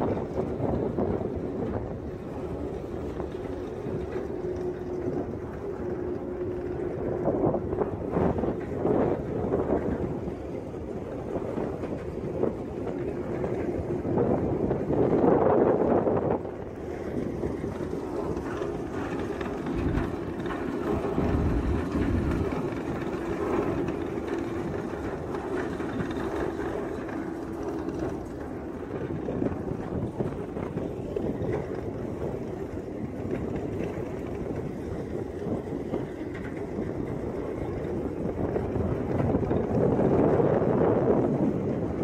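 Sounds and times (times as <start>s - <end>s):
ship deck hum: 0.0s - 42.0s
wind buffeting microphone: 0.0s - 42.0s.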